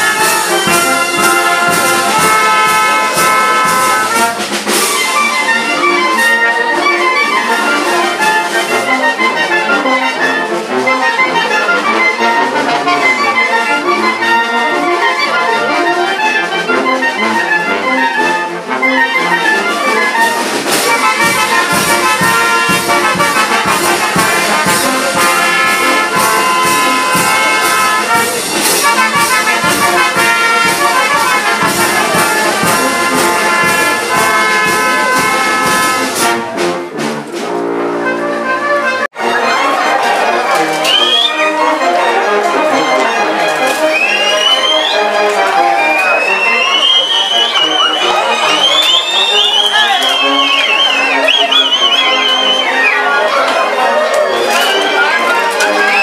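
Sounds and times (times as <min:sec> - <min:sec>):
brass band playing dance music: 0:00.0 - 0:56.0.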